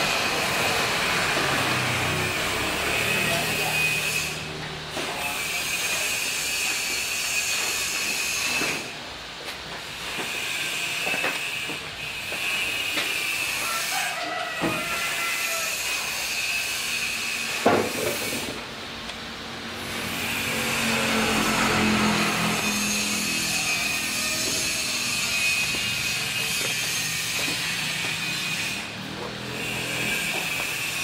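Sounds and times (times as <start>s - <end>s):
hissing workshop noise: 0.0s - 31.0s.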